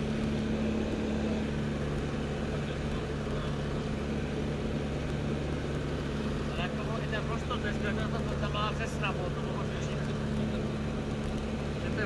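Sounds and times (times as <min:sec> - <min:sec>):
propeller engine droning in flight: 0:00.0 - 0:12.0.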